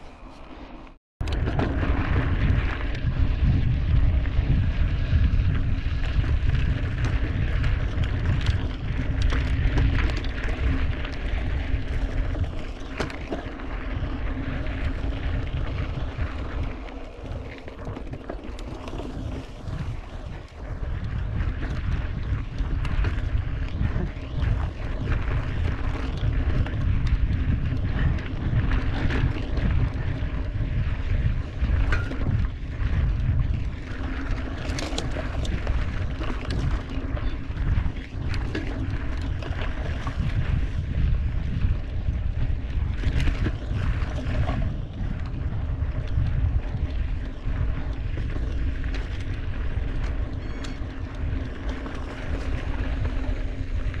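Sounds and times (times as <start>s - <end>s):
bike clicks and rattles: 0.0s - 54.0s
bike tyres rolling on dirt: 0.0s - 54.0s
wind buffeting microphone: 1.2s - 54.0s.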